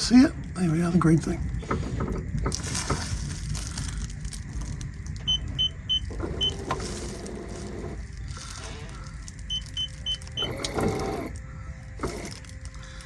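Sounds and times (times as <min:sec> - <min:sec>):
low steady rumble: 0:00.0 - 0:13.0
electric drive motor running: 0:01.5 - 0:13.0.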